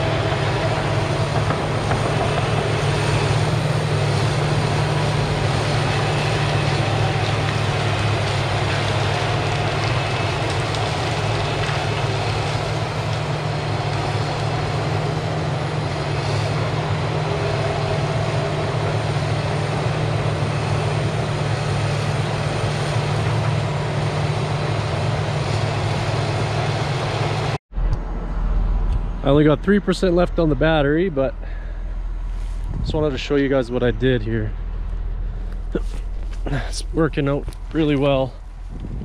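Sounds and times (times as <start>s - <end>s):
trees being pushed down: 0.0s - 27.6s, 35.1s - 39.0s
diesel engine running: 0.0s - 39.0s.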